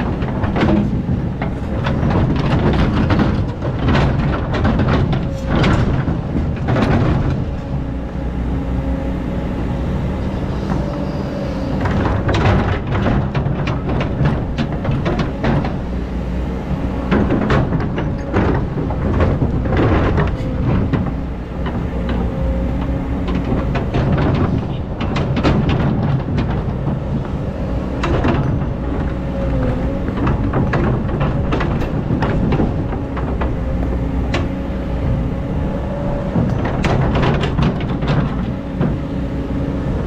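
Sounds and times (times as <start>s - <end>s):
diesel engine with whine: 0.0s - 40.0s.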